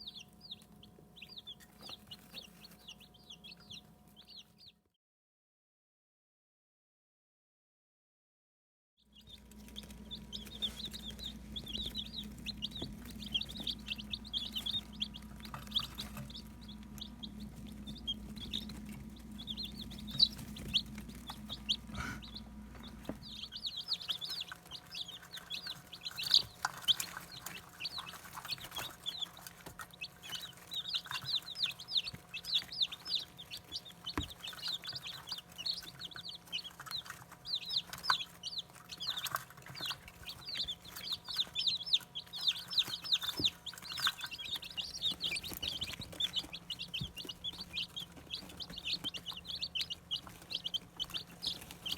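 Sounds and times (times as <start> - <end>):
chicks peeping: 0.0 - 4.8, 9.0 - 51.9
low steady hum: 9.1 - 51.9.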